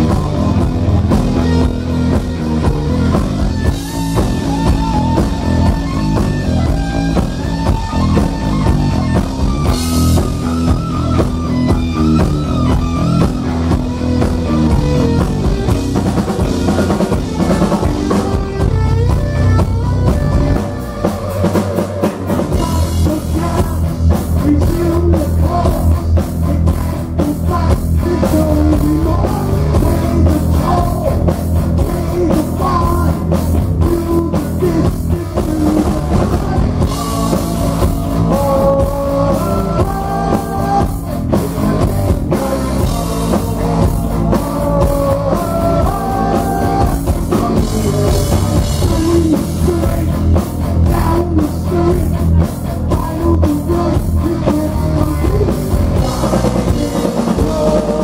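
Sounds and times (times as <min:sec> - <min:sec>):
distorted electric guitar: 0:00.0 - 0:58.0
fast drum beat: 0:00.0 - 0:58.0
heavy metal band playing live: 0:00.0 - 0:58.0.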